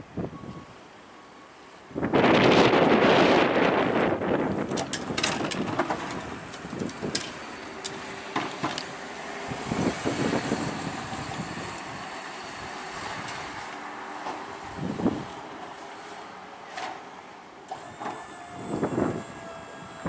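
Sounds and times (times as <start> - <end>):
garbage truck running: 0.0 - 20.0.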